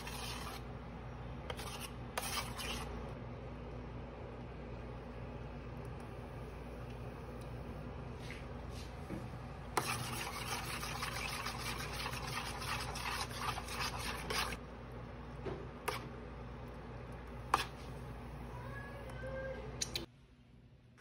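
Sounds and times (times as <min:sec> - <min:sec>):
cooktop low hum: 0:00.0 - 0:21.0.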